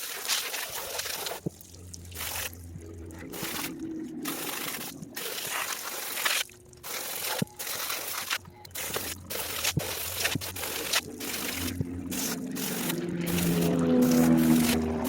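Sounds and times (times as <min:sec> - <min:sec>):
running water splashing: 0:00.0 - 0:15.0.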